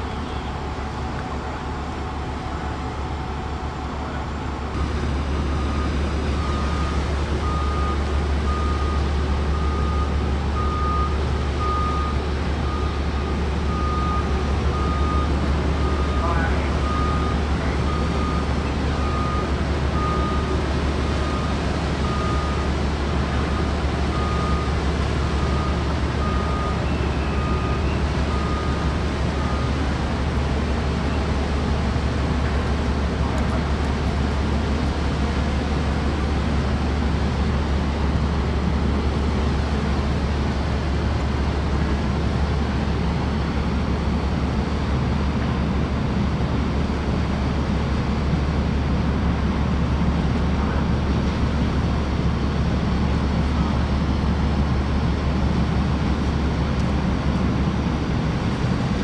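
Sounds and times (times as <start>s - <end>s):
ship engines droning: 0.0s - 59.0s.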